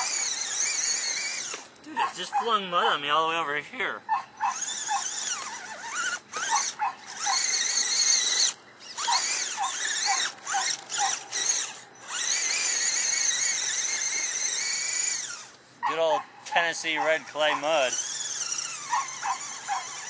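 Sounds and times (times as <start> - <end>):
rc car motor whining: 0.0 - 3.4, 4.1 - 15.7, 16.5 - 20.0.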